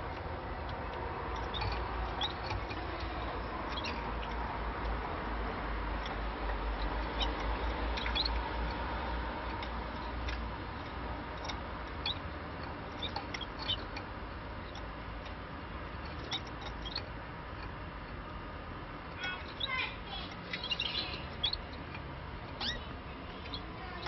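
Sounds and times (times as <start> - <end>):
canaries chirping: 0.0 - 24.0.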